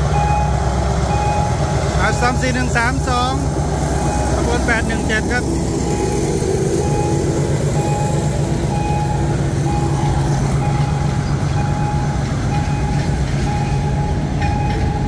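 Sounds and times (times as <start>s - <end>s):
freight train rumbling past: 0.0s - 15.0s
level crossing signal beeping: 0.0s - 15.0s.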